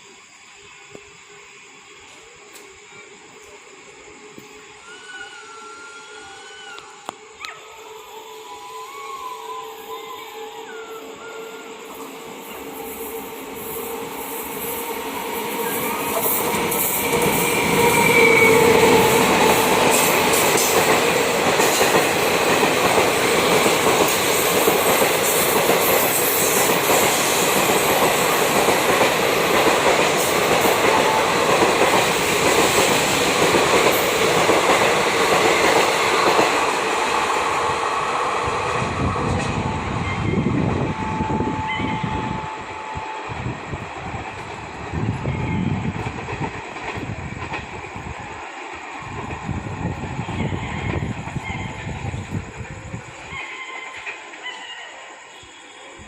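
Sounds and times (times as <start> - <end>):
express train passing: 0.0 - 56.0.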